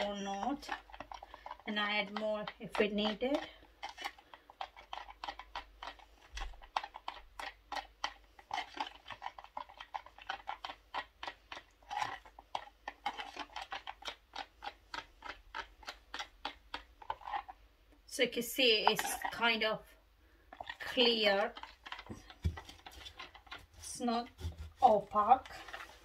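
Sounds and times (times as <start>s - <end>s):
stick scraping plastic jug: 0.0s - 17.6s, 18.2s - 26.0s.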